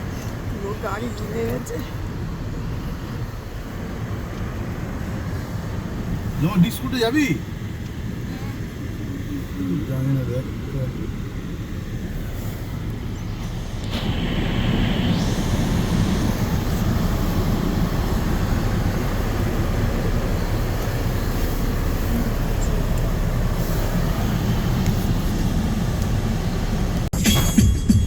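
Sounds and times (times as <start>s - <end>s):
car cabin road rumble: 0.0s - 27.2s.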